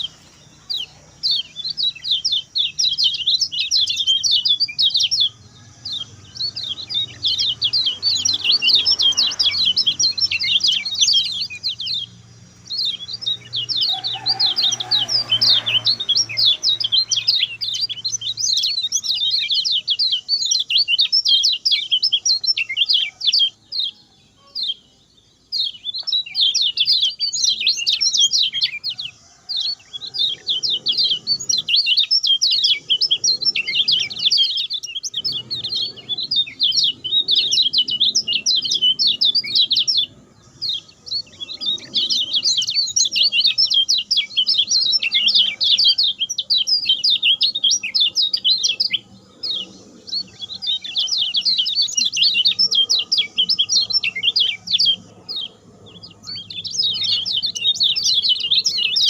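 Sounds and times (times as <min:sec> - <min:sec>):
songbird singing high chirps: 0:00.0 - 0:59.0.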